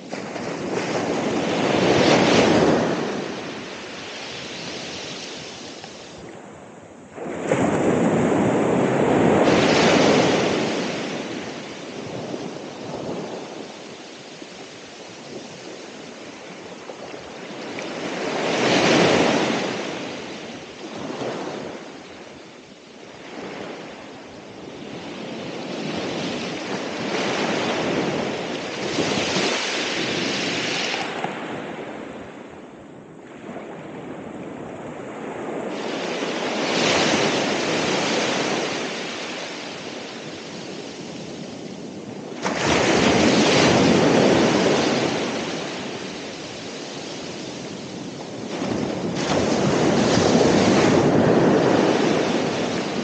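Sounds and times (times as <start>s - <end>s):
waves breaking on shore: 0.0s - 53.0s.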